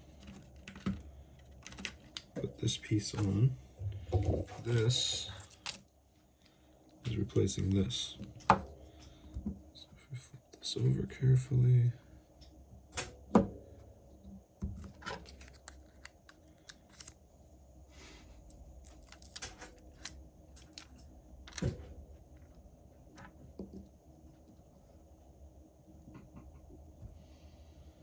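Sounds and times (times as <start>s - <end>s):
faint high whine: 2.4s - 28.0s.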